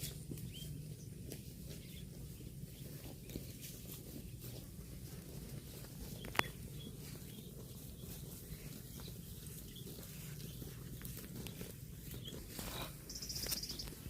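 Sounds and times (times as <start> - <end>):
cow tearing and chewing grass: 0.0 - 14.0
low background noise: 0.0 - 14.0.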